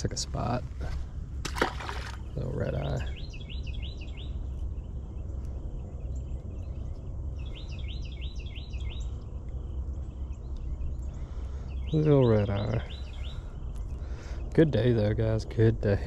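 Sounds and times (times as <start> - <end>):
songbird chirping: 0.2 - 16.0.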